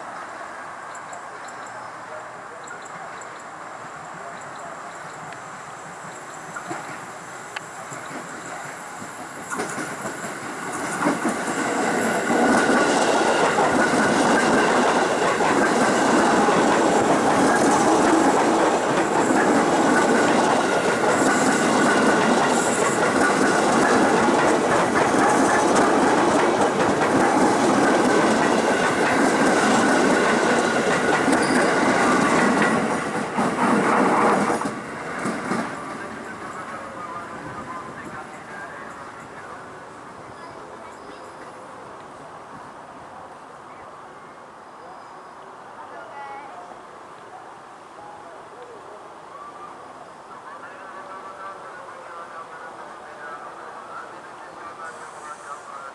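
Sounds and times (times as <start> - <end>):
electric train passing: 0.0 - 46.3.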